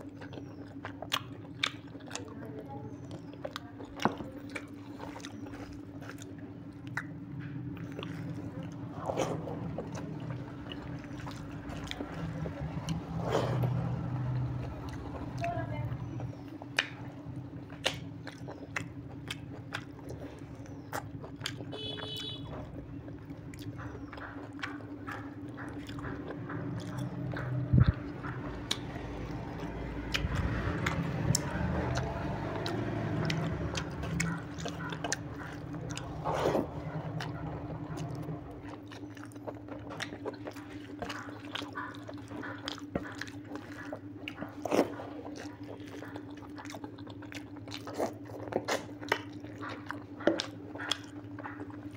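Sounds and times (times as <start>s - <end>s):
chewing and lip-smacking: 0.0s - 51.9s
low hum: 4.2s - 51.9s.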